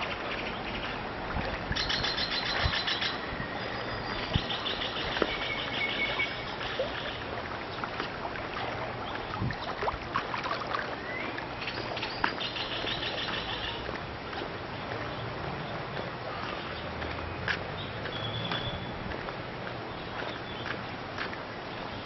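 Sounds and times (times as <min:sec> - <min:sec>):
birds chirping: 0:01.7 - 0:08.0, 0:09.0 - 0:09.8, 0:10.8 - 0:22.0.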